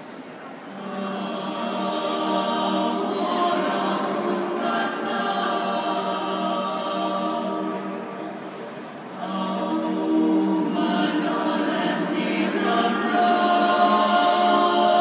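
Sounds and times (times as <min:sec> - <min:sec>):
choir singing a cappella: 0:00.6 - 0:15.0.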